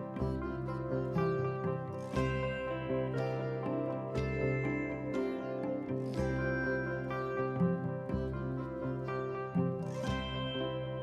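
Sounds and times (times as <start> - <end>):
gentle plucked-string melody: 0.0 - 11.0.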